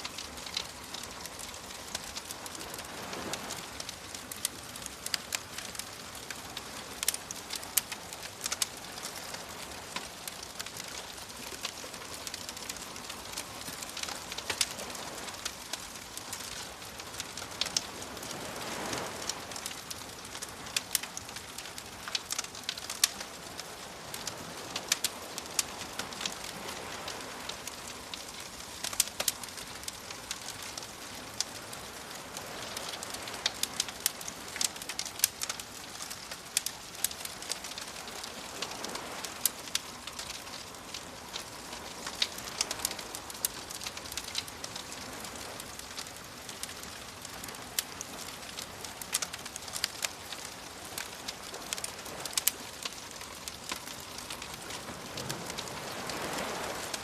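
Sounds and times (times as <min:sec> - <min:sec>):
sea waves: 0:00.0 - 0:57.0
wood fire crackling and popping: 0:00.0 - 0:57.0.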